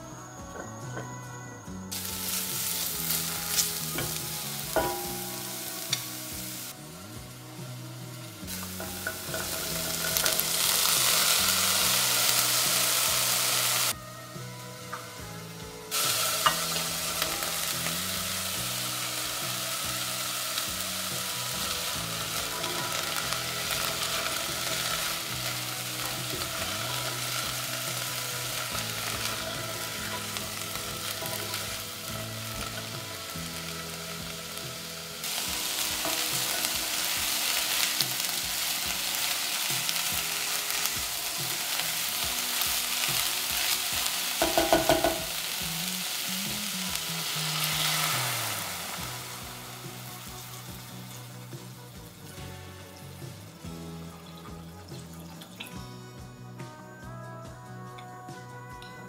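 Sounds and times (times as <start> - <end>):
vegetables sizzling in oil: 1.9 - 56.0.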